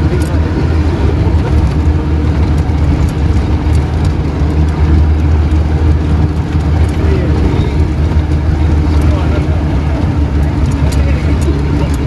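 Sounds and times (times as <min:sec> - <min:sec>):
car engine droning: 0:00.0 - 0:12.0
faint rattles: 0:00.0 - 0:12.0.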